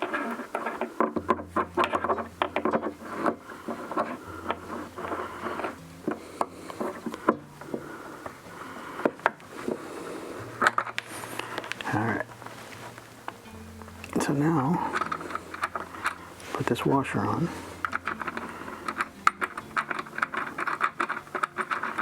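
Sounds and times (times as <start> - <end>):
faint background bass line: 1.1 - 21.8.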